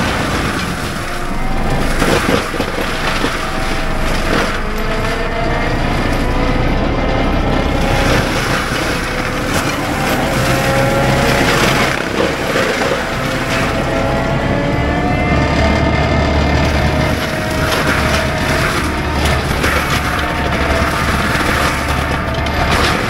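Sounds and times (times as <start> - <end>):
diesel loader engine running hard: 0.0 - 23.0
mulcher grinding through brush: 0.0 - 23.0
mulcher head whining: 0.0 - 23.0.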